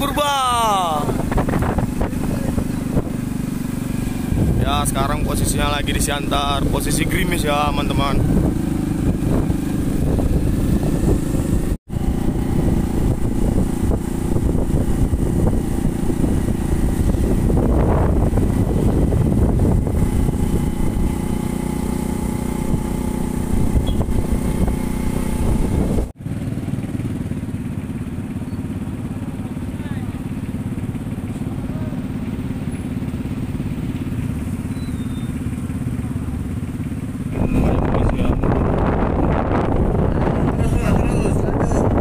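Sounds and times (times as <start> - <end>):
motorcycle engine running: 0.0 - 42.0
road and wind noise: 0.0 - 42.0.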